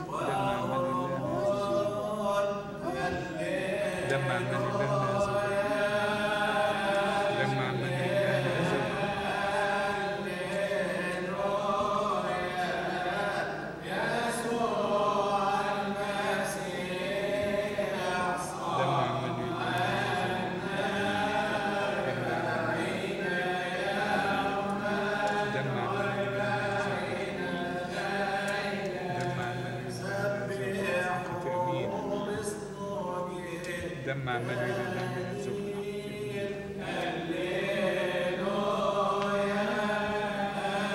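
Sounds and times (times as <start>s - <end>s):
men chanting a hymn: 0.0s - 40.9s.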